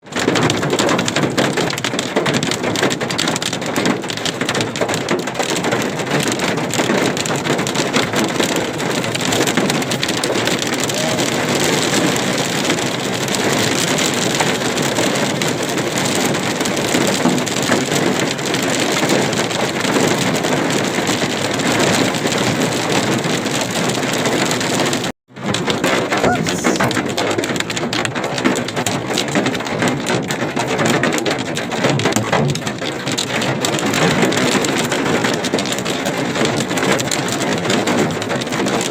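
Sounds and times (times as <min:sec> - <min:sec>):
hail clattering on surfaces: 0:00.0 - 0:38.9.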